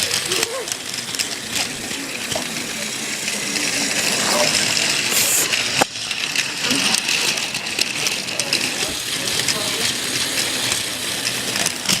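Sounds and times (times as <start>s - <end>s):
toy train clicks and clatter: 0.0s - 12.0s
toy train motor whir: 0.0s - 12.0s.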